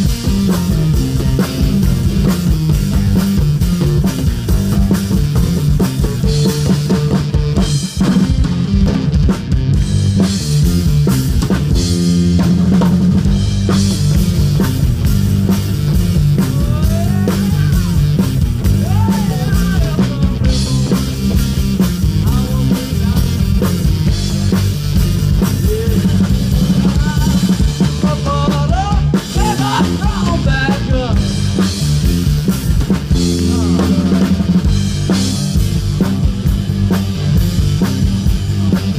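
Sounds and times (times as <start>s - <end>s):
bass drum and snare: 0.0s - 38.9s
electric guitar lead line bending: 0.0s - 38.9s
live rock band playing: 0.0s - 38.9s.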